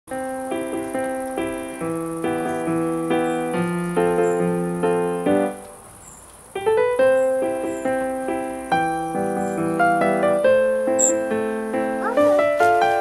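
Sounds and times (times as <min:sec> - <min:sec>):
gentle piano melody: 0:00.1 - 0:13.0.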